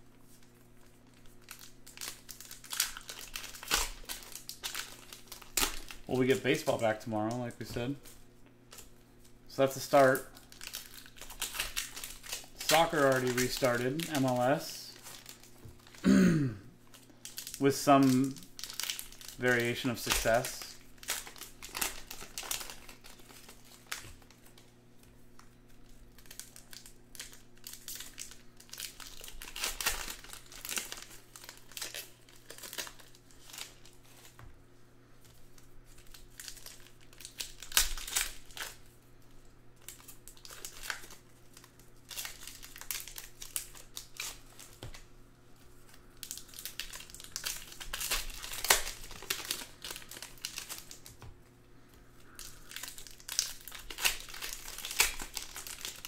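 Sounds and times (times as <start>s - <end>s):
faint steady hum: 0.0s - 56.0s
wrappers torn and crinkled: 0.2s - 16.2s, 16.8s - 34.5s, 35.2s - 51.6s, 52.2s - 56.0s.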